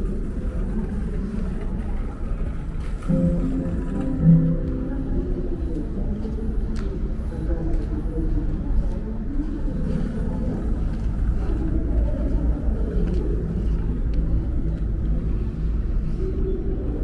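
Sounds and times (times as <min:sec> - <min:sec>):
faint engine drone: 0:00.0 - 0:17.0.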